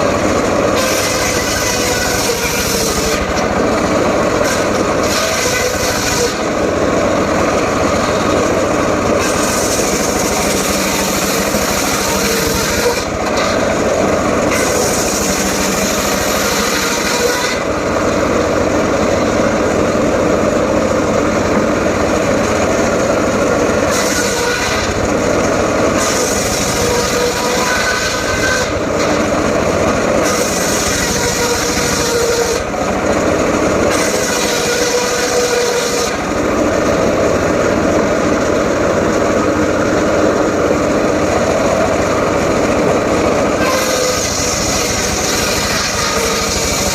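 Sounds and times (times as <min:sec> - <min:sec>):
circular saw cutting wood: 0:00.0 - 0:46.9.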